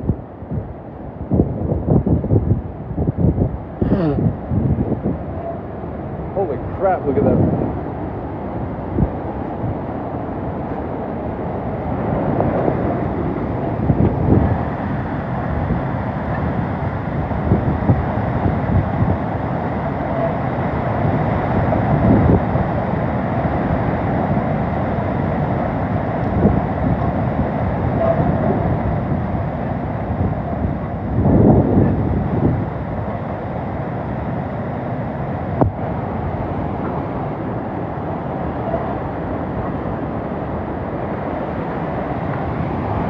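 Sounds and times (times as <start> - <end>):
hurricane winds buffeting microphone: 0.0 - 43.0.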